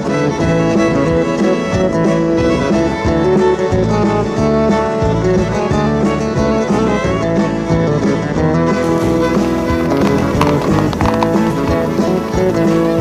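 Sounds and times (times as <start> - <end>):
instrumental country music: 0.0 - 13.0.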